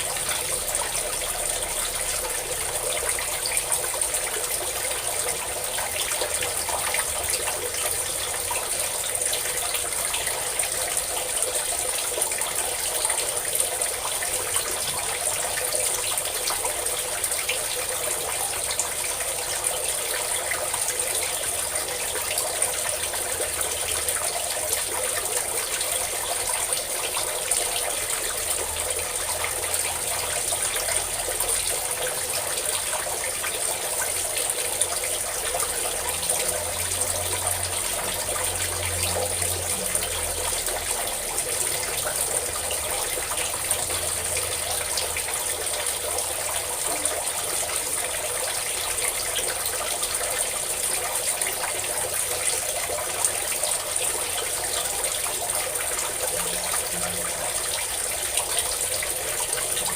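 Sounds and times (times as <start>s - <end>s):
water pouring and splashing: 0.0s - 59.9s.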